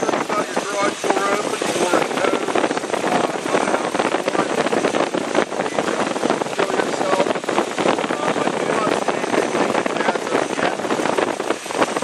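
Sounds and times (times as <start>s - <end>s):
car engine running with clatter: 0.0s - 12.0s.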